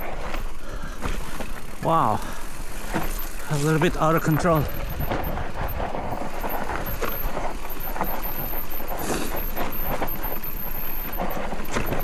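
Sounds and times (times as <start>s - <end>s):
mountain bike rattling over dirt: 0.0s - 12.0s
tyre and wind noise: 0.0s - 12.0s.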